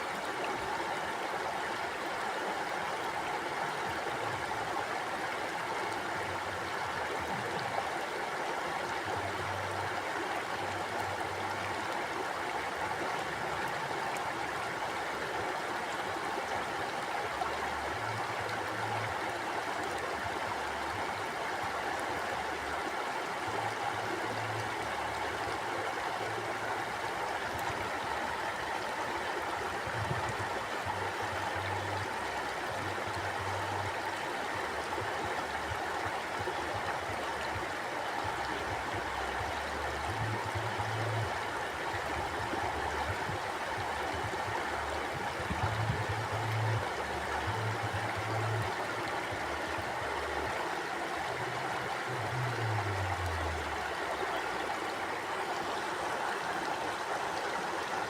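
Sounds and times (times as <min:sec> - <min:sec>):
stream water rushing and gurgling: 0:00.0 - 0:58.0.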